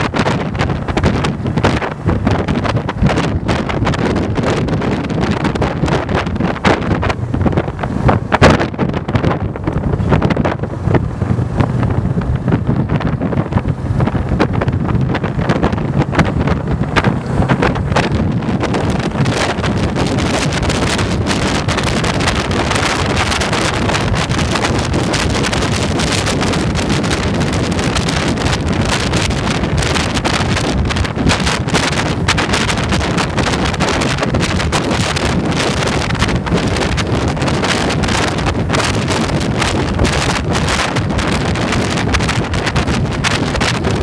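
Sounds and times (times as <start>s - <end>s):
motorcycle engine running: 0.0s - 44.0s
wind buffeting microphone: 0.0s - 44.0s.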